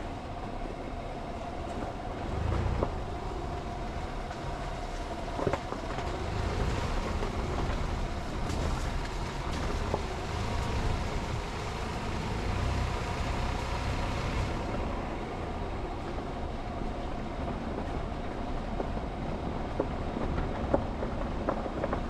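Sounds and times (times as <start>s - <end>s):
road hiss: 0.0s - 18.7s
vehicle engine and tyre rumble: 0.0s - 22.0s.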